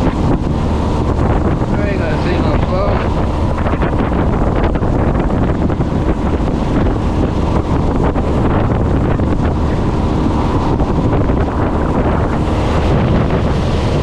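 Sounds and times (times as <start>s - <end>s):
boat engine drone: 0.0s - 14.0s
water rushing past hull: 0.0s - 14.0s
wind buffeting microphone: 0.0s - 14.0s.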